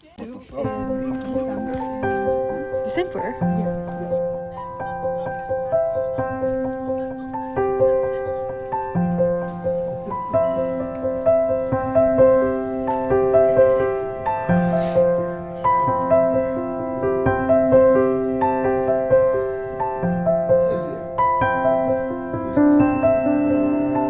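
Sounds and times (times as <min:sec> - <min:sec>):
piano music with held notes: 0:00.4 - 0:24.0.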